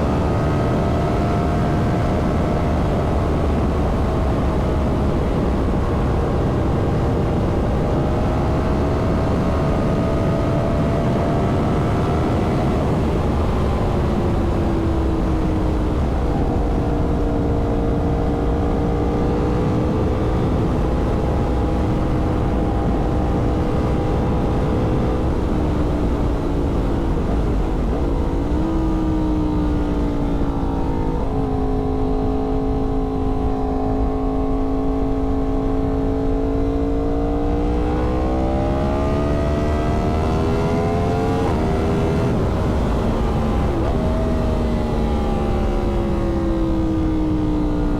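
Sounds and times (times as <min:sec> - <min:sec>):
wind rush on microphone: 0:00.0 - 0:47.9.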